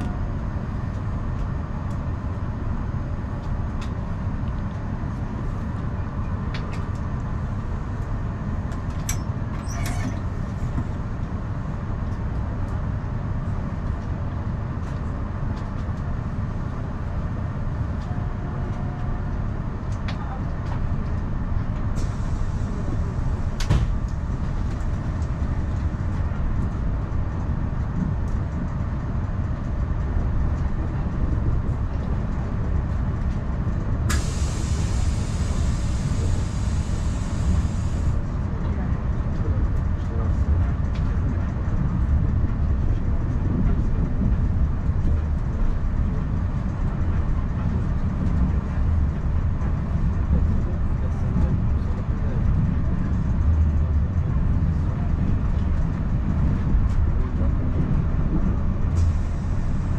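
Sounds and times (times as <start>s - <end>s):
train clicks and knocks: 0.0s - 59.9s
train wheels rumbling on rails: 0.0s - 59.9s.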